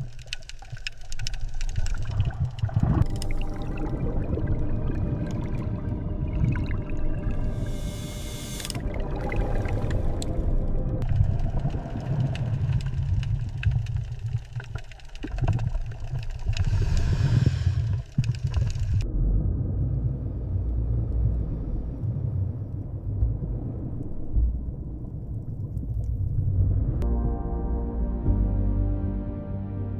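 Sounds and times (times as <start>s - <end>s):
deep low rumble: 1.4s - 29.9s.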